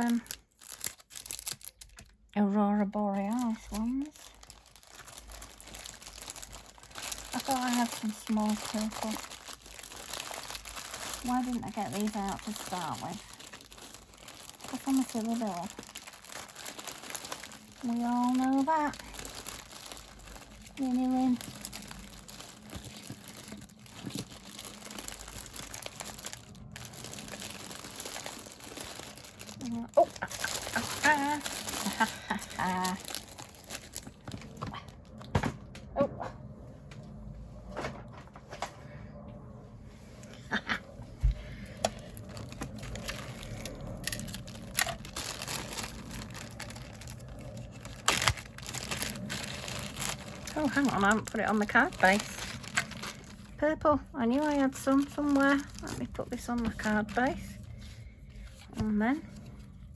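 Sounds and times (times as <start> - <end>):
packets rustling and crinkling: 0.0 - 2.2, 3.2 - 35.3, 41.2 - 59.9.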